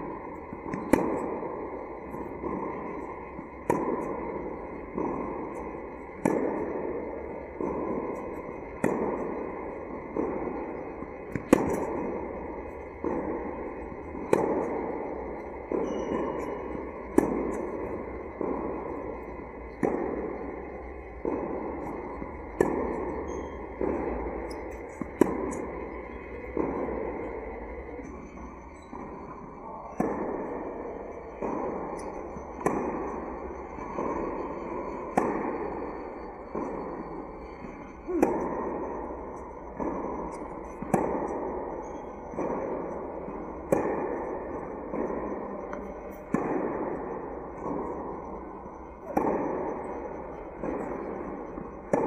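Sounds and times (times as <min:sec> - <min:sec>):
echoing distant tennis hits: 0:00.0 - 0:52.0
racket striking tennis ball: 0:00.1 - 0:52.0.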